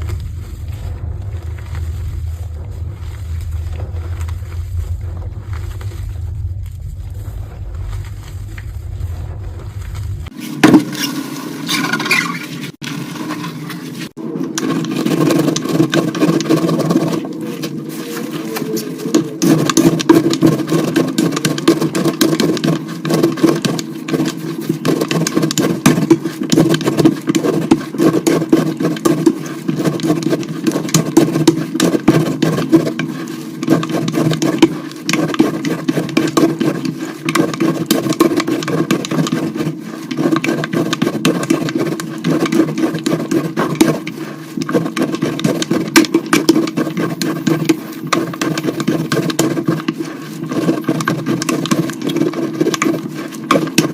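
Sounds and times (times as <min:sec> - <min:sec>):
chalk crunching: 0:00.0 - 0:53.9.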